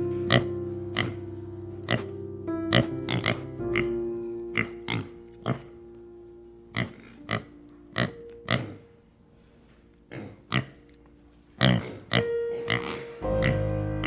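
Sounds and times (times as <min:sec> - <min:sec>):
background music with held notes: 0:00.0 - 0:14.0.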